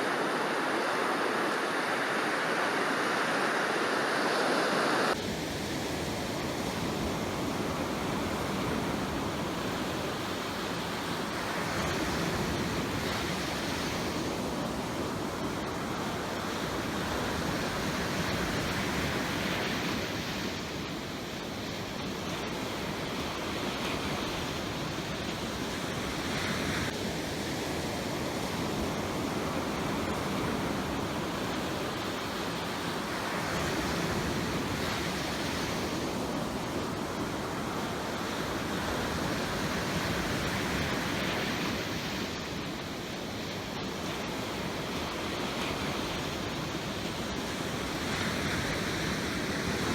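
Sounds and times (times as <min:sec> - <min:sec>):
ocean waves washing in: 0:00.0 - 0:49.9.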